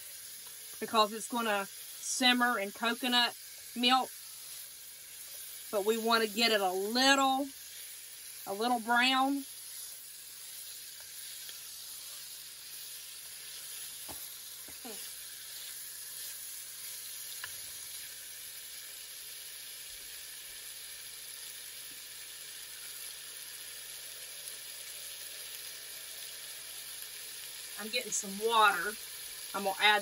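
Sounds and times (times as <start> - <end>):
chicken sizzling in a pot: 0.0 - 30.0.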